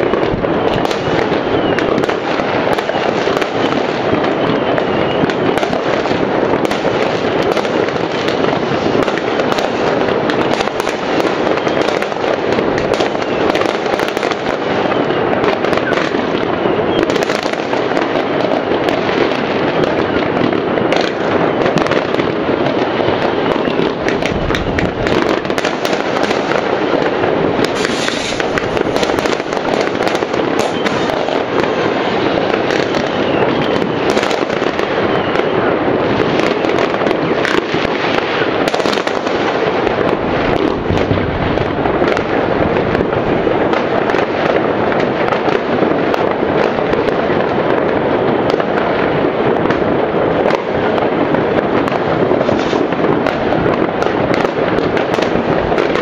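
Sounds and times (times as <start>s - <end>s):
fireworks crackling and banging: 0.0s - 56.0s.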